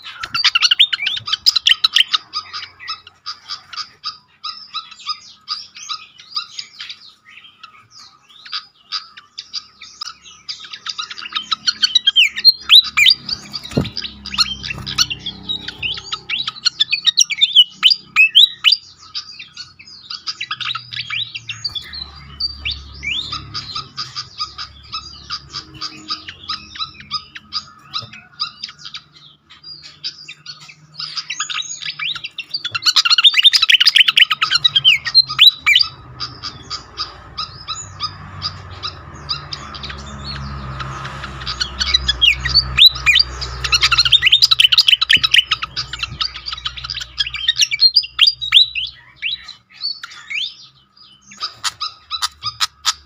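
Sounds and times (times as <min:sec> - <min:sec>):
bird chirping and whistling: 0:00.0 - 0:53.0.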